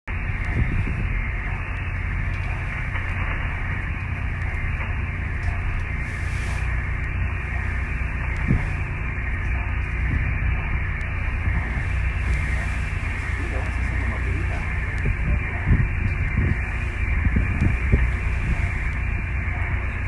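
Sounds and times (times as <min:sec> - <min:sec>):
low engine drone with hiss: 0:00.1 - 0:20.0.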